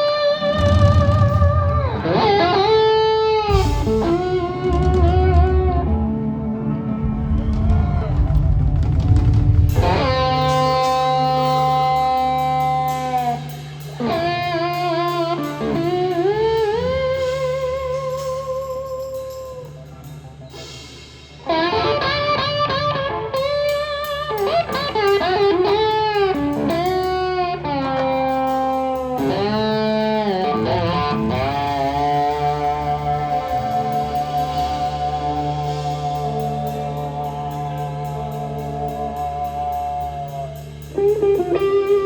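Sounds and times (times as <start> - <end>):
bass: 0.0 - 42.0
electric blues guitar: 0.0 - 42.0.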